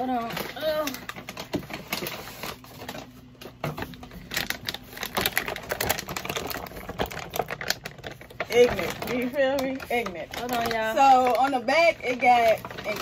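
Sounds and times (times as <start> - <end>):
plastic and paper rustling: 0.0 - 13.0.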